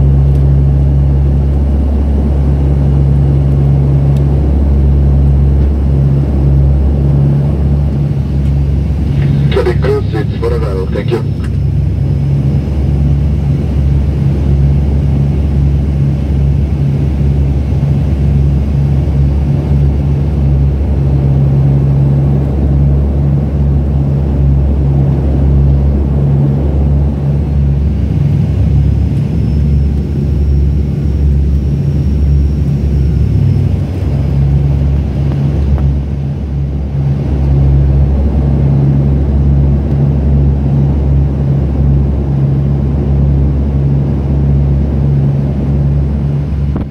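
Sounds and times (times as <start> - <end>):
turboprop cabin drone: 0.0 - 46.9.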